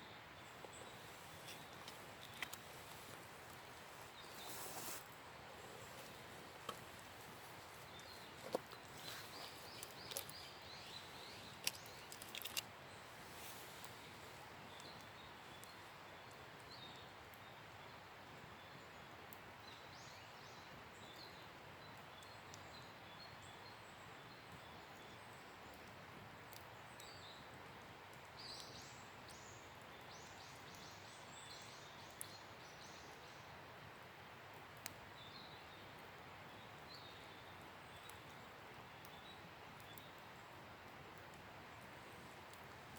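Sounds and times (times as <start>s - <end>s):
wood fire crackling: 0.2s - 19.8s, 20.7s - 31.3s, 31.9s - 42.9s.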